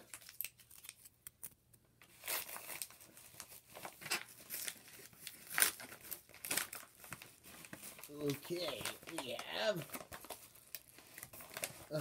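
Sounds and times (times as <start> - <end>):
package wrapping crinkling: 0.0 - 12.0.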